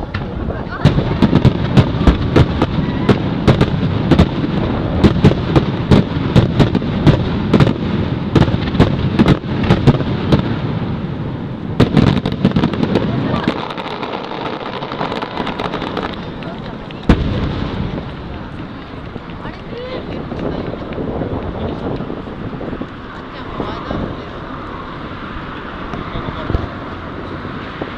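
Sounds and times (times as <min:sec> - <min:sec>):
aerial fireworks bursting: 0:00.0 - 0:27.9.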